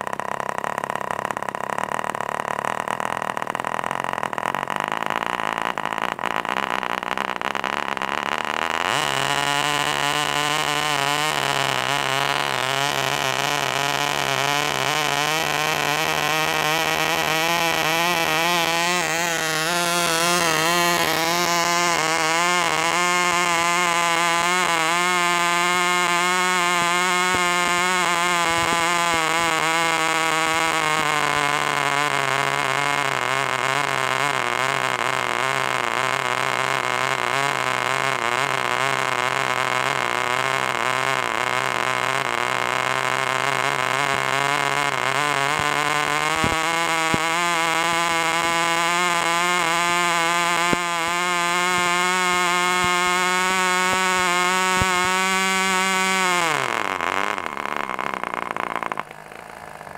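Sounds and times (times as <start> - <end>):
model two-stroke engine running: 0.0 - 59.9.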